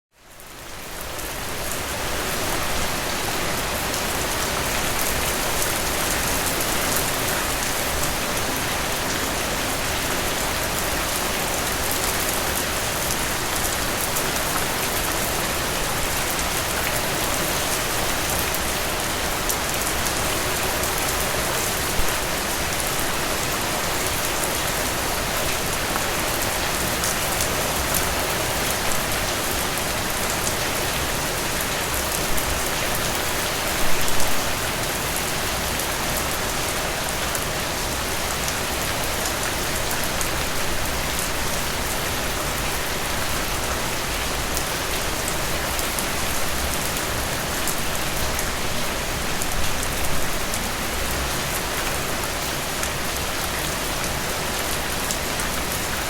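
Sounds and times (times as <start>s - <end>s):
heavy rain pattering: 0.3s - 56.0s.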